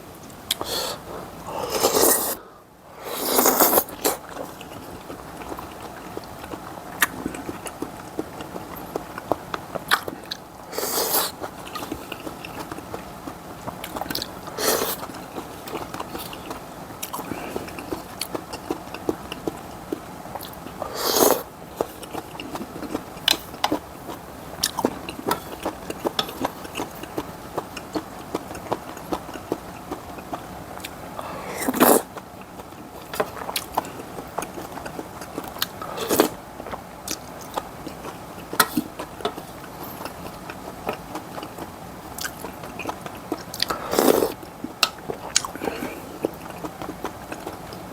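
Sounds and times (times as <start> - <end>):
loud eating sounds: 0.0 - 47.9
person chewing food: 0.2 - 47.9.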